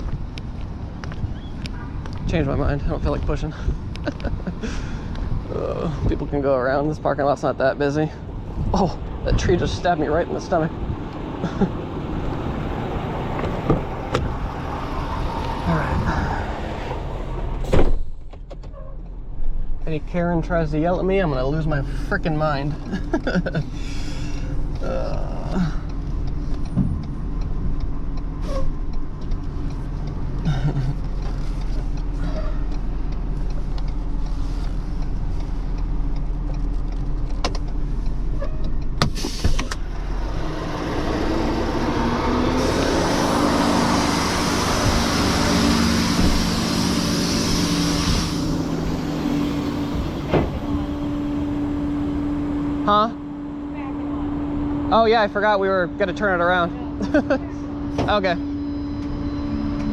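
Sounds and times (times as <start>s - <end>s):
tow truck engine running: 2.6s - 59.9s.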